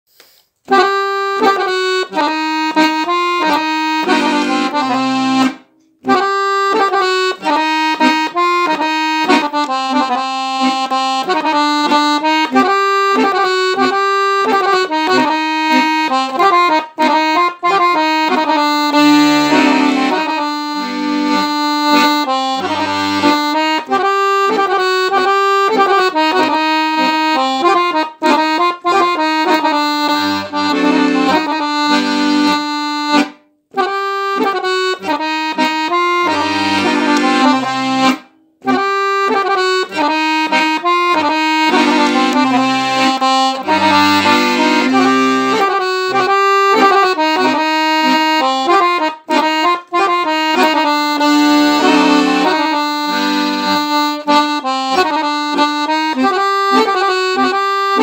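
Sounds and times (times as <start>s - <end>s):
accordion melody in chords: 0.2s - 58.0s
accordion bass notes: 0.6s - 58.0s.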